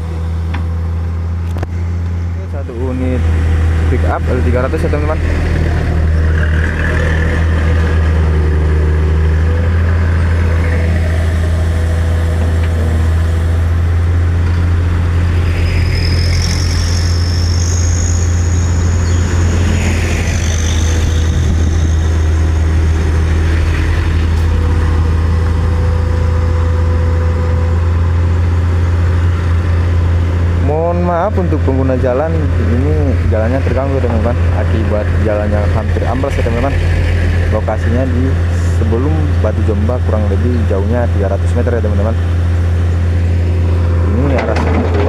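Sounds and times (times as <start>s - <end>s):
engine idling: 0.0s - 45.0s
high-pitched whine: 0.0s - 45.0s.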